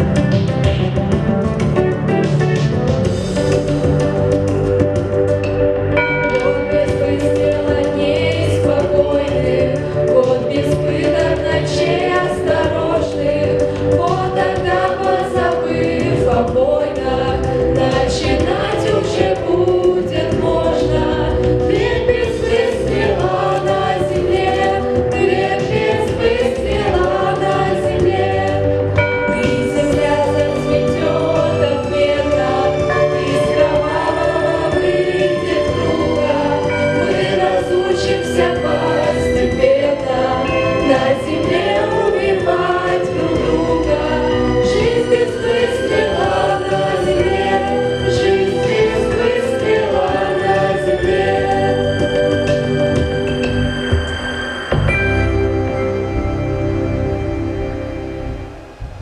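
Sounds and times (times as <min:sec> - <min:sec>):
instrumental accompaniment with bass: 0:00.0 - 0:59.0
choir singing: 0:05.9 - 0:59.0.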